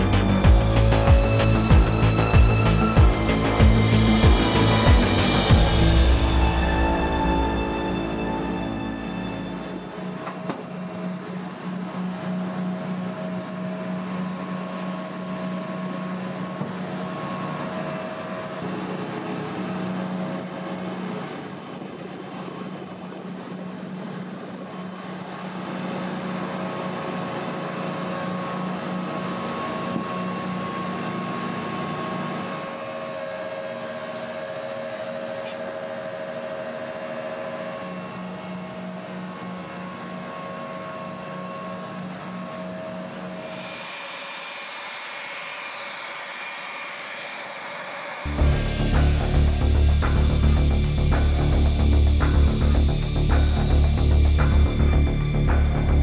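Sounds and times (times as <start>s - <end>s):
machinery drone with hums: 0.0s - 56.0s.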